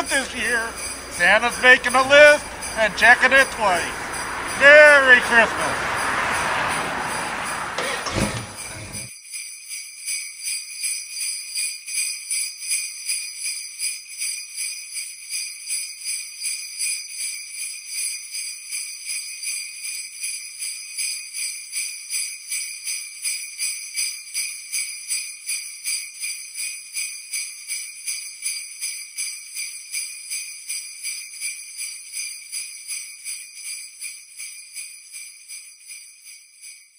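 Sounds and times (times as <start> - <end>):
sleigh bells jingling: 0.0 - 36.9.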